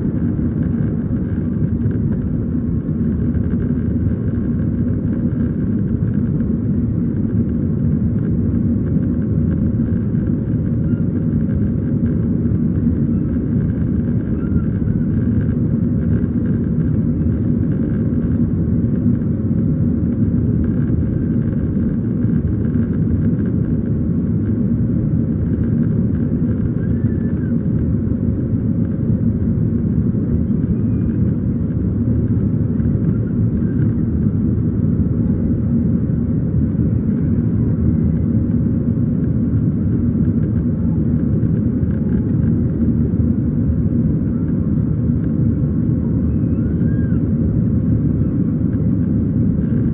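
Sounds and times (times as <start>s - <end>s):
airplane cabin rumble: 0.0s - 49.9s.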